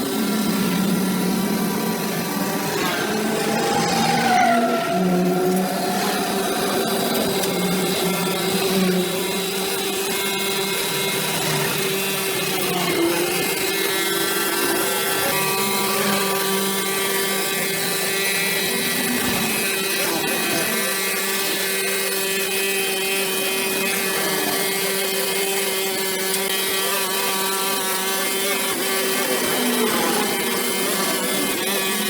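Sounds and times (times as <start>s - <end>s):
brush cutter engine running: 0.0s - 32.0s.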